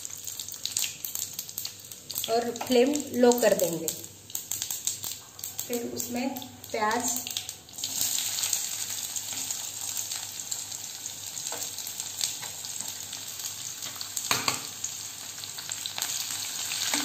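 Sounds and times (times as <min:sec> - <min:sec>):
onions sizzling in hot fat: 0:00.0 - 0:17.0.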